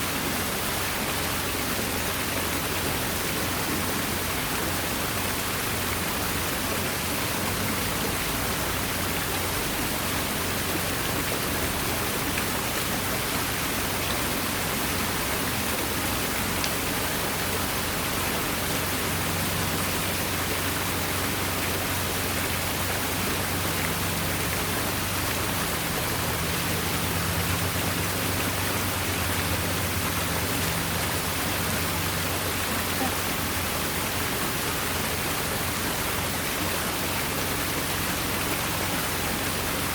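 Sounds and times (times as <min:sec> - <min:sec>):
waterfall rushing splash: 0:00.0 - 0:39.9.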